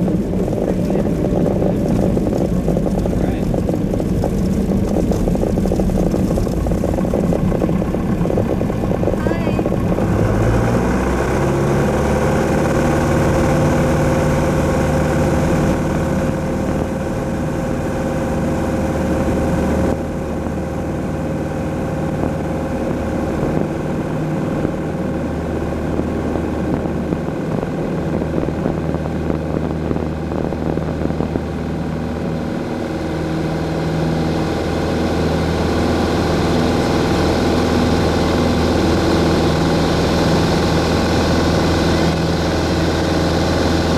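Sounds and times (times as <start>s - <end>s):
aircraft engine and propeller: 0.0s - 43.9s.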